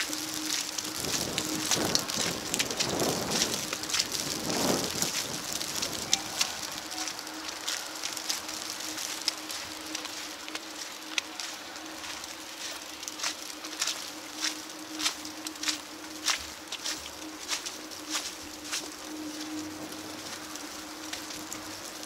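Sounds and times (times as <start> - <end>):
wet snow pattering on pavement: 0.0 - 22.0.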